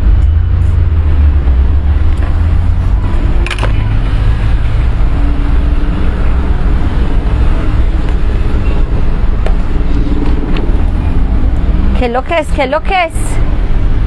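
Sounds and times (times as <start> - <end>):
loud low rumble with hiss: 0.0 - 14.0.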